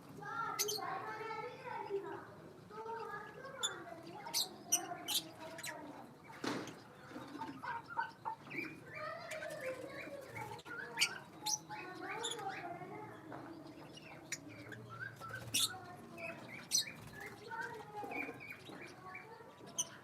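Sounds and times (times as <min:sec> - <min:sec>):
small birds chirping and chattering: 0:00.0 - 0:20.0.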